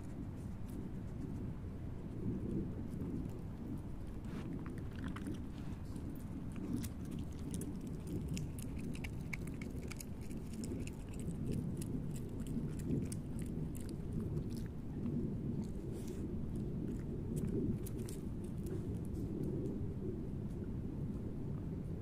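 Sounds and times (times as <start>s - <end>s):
animal chewing and crunching: 0.0s - 19.8s
steady low rumble: 0.0s - 22.0s.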